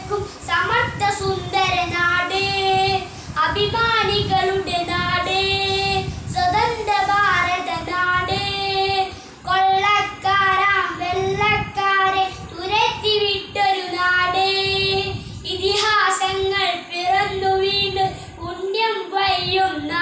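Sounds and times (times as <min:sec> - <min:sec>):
boy singing: 0:00.0 - 0:20.0.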